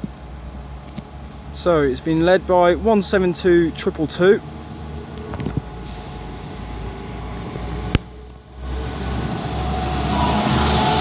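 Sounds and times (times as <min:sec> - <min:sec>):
diesel train engines rumbling: 0:00.0 - 0:11.0.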